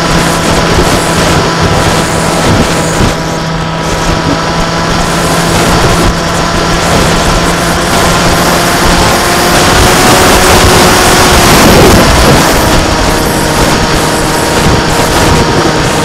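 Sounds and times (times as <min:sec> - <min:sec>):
aircraft motor and propeller hum: 0:00.0 - 0:16.0
wind rushing over microphone: 0:00.0 - 0:16.0.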